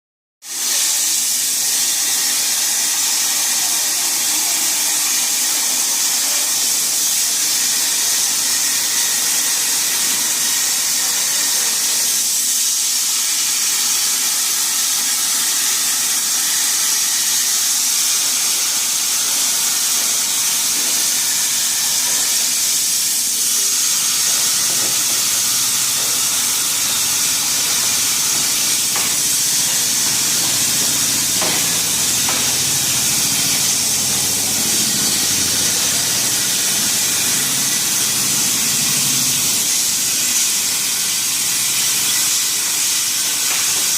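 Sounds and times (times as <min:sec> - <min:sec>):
plasma torch cutting steel hiss: 0:00.5 - 0:43.9.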